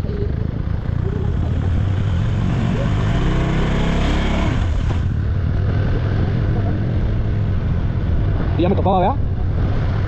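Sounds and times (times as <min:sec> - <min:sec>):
motorcycle engine: 0:00.0 - 0:10.0
wind and road rumble: 0:00.0 - 0:10.0.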